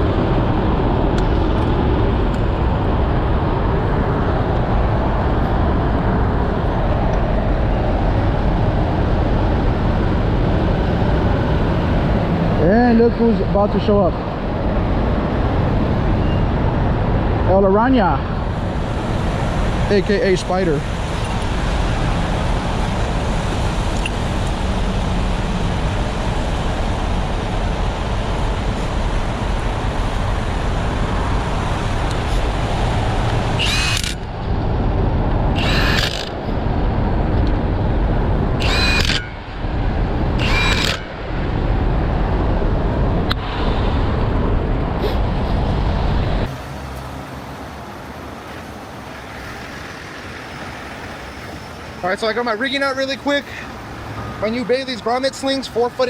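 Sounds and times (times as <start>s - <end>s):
freeway traffic: 0.0s - 56.0s
heavy trucks passing: 0.0s - 56.0s.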